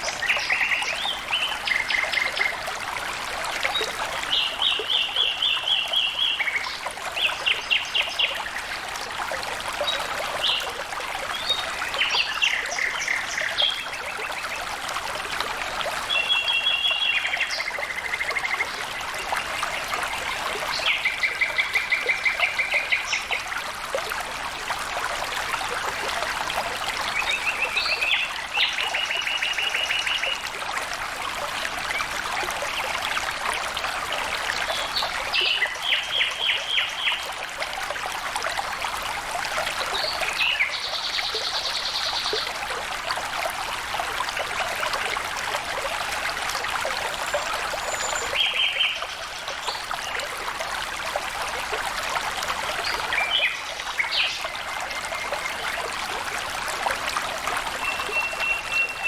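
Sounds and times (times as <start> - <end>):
water flowing over stones: 0.0 - 59.0.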